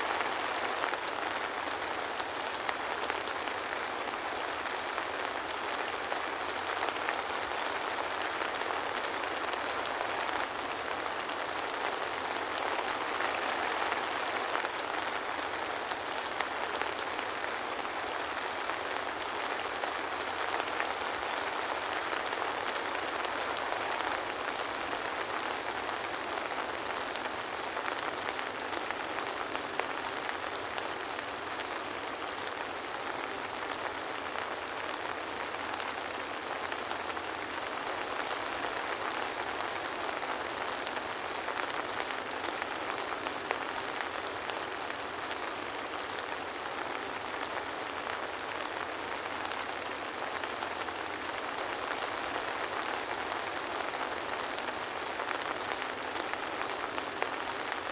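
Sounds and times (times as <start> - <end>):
soft rain falling: 0.0 - 57.9.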